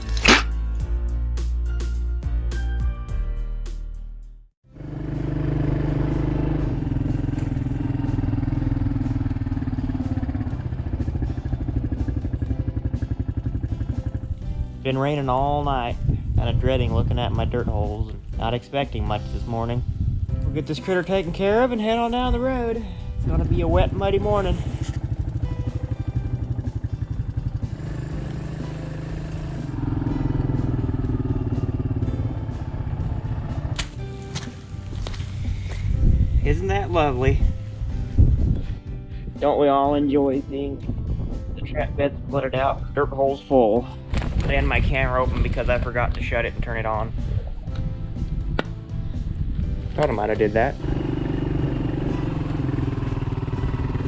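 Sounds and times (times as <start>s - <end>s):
vehicle engine running: 4.7s - 18.3s, 19.2s - 43.1s, 48.0s - 54.0s.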